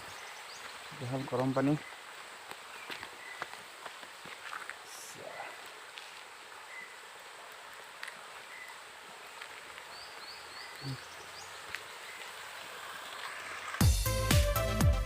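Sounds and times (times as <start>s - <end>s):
small birds chirping: 0.0s - 13.8s
steady faint hiss: 0.0s - 13.8s.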